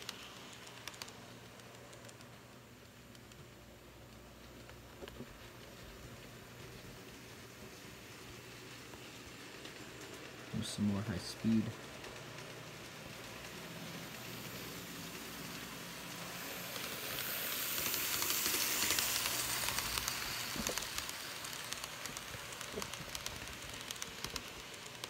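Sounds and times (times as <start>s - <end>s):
model train wheels and motor rushing: 0.0s - 25.0s
wheels clicking over rail joints: 0.0s - 25.0s.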